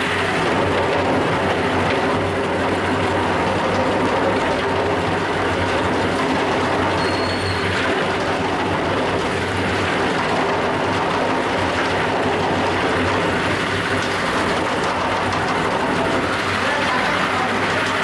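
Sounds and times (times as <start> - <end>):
floor grinding machine: 0.0 - 18.0.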